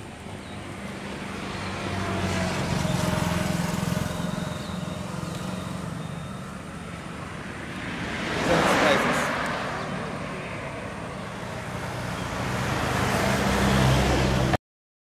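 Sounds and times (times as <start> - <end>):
vehicle engine hum passing: 0.0 - 14.6.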